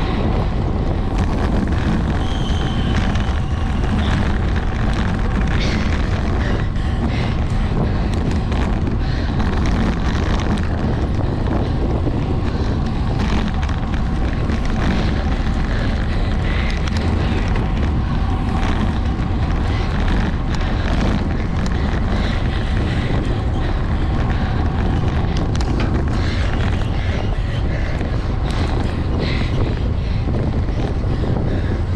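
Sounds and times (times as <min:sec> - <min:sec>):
wind rushing over microphone: 0:00.0 - 0:31.9.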